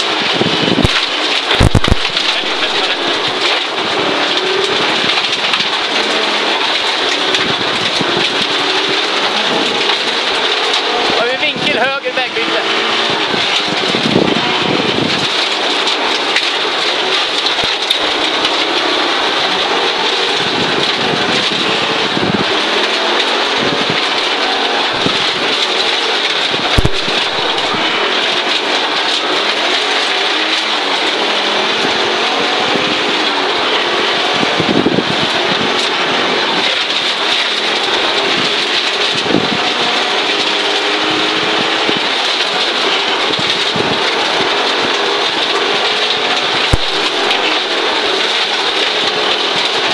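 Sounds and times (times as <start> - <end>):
car engine running hard: 0.0 - 49.9
gravel and road noise: 0.0 - 49.9.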